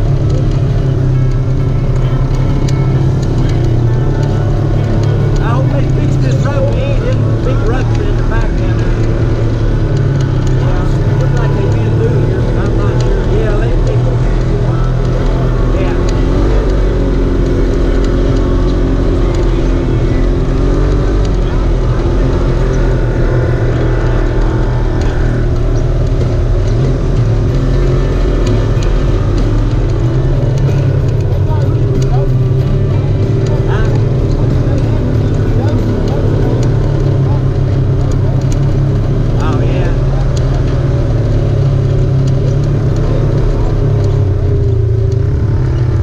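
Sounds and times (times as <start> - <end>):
faint clicks and rattles: 0.0 - 46.0
vehicle engine running: 0.0 - 46.0.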